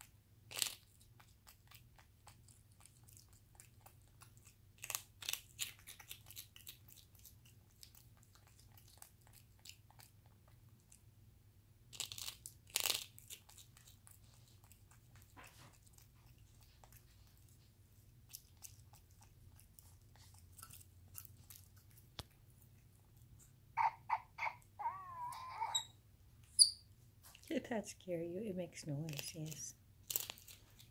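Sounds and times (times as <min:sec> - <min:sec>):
monkey crunching and chewing biscuit: 0:00.0 - 0:11.1, 0:11.8 - 0:25.9, 0:28.7 - 0:30.9.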